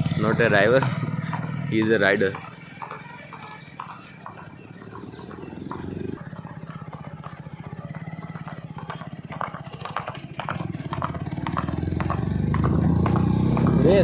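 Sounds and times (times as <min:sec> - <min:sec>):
engine running: 0:00.0 - 0:14.0
hoof clops on road: 0:00.0 - 0:14.0.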